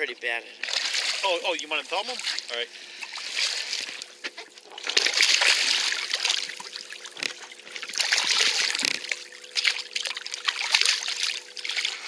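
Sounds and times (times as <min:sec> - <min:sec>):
fish thrashing and splashing: 0:00.6 - 0:12.0.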